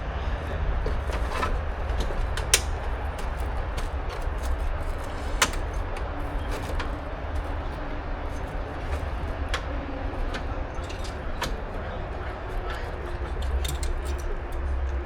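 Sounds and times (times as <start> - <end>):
sharp clicks and knocks: 0.4 - 15.0.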